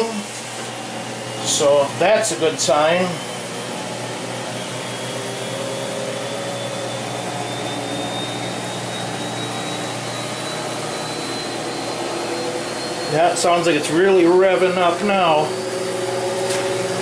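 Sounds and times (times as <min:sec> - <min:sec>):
washer motor whirring and whining: 0:00.0 - 0:17.0.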